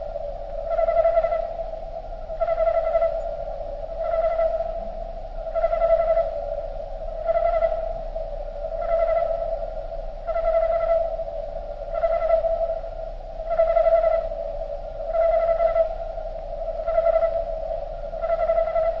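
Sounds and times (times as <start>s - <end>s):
slowed cricket chorus humming: 0.0s - 19.0s.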